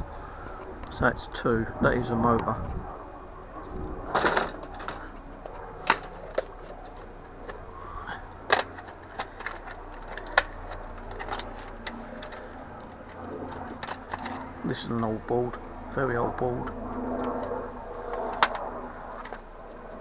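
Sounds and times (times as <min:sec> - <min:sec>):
small parts clicking and knocking: 0:03.6 - 0:20.0.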